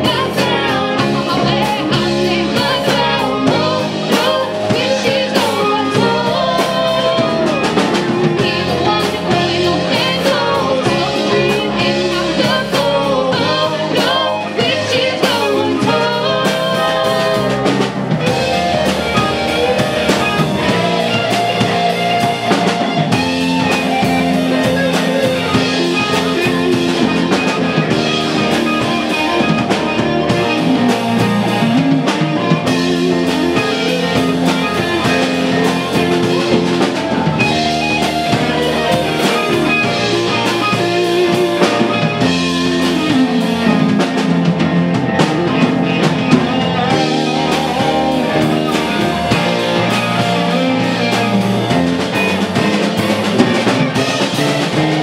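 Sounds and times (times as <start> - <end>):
bass guitar: 0.0 - 55.0
drum kit: 0.0 - 55.0
lead electric guitar melody: 0.0 - 55.0.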